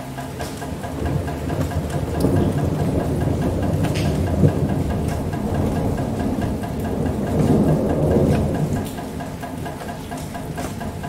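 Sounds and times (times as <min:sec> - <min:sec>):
steady rain: 0:00.0 - 0:11.0
thunder rumble: 0:00.3 - 0:11.0.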